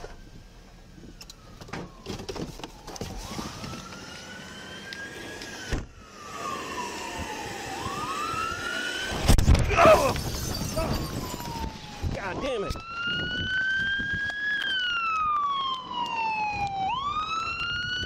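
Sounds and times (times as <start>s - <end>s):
police sirens wailing: 0.3s - 18.0s.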